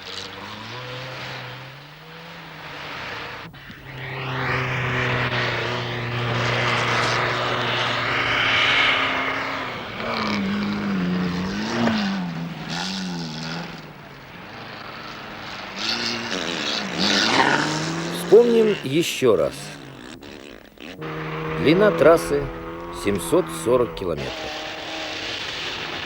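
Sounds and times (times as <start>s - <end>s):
car engine revving: 0.0s - 26.0s
tyre and road noise: 0.0s - 26.0s.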